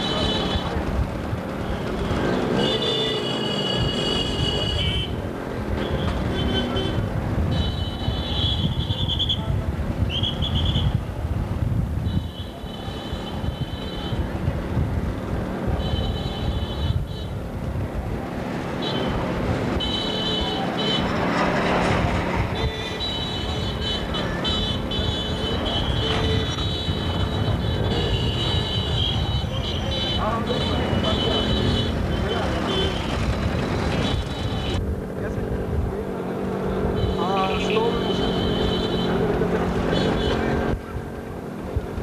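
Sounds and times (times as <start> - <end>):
crowd noise: 0.0 - 10.9, 17.3 - 42.0
motorcycle engines at low speed: 0.0 - 42.0.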